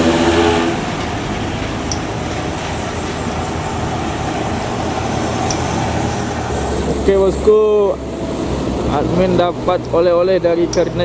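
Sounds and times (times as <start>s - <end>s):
heavy truck engine: 0.0s - 11.0s
road noise: 0.0s - 11.0s.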